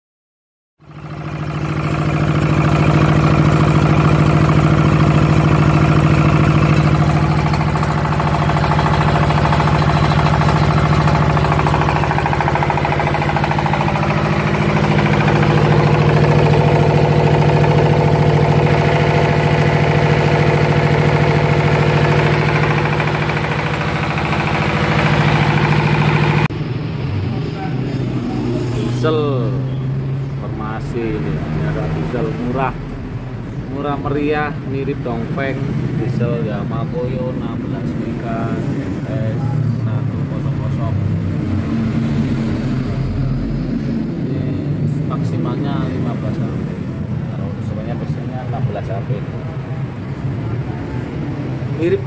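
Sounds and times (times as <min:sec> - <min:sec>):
diesel engine running: 0:00.8 - 0:52.0.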